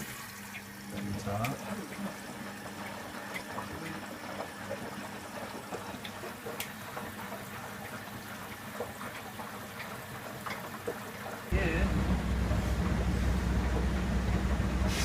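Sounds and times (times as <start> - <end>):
water running in washing machine: 0.0 - 15.0.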